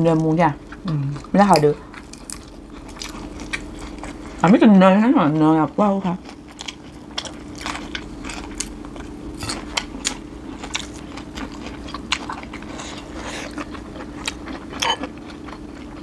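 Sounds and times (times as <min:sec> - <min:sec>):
chewing and crunching food: 0:00.0 - 0:16.0
steady low hum: 0:00.0 - 0:16.0.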